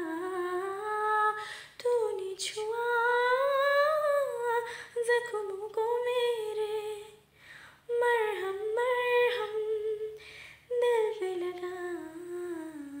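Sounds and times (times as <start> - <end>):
woman singing unaccompanied: 0.0 - 7.2, 7.9 - 13.0.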